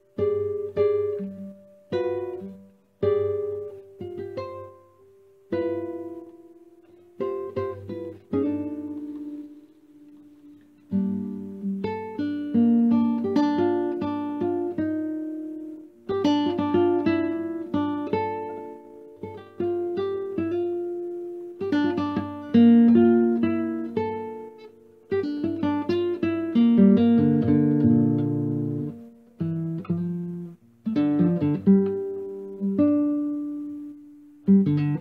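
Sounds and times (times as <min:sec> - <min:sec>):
plucked acoustic guitar: 0:00.0 - 0:35.0.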